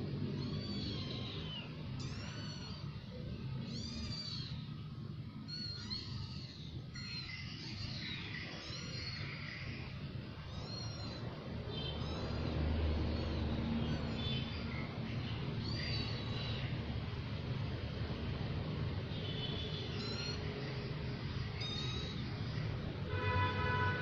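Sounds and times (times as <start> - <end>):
kittens mewing: 0.0 - 17.6, 19.8 - 22.7.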